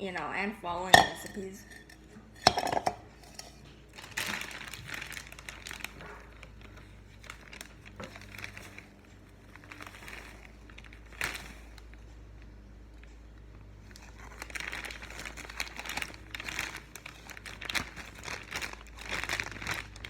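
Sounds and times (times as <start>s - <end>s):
flour bag crinkling and rustling: 2.4s - 13.0s, 13.7s - 20.0s.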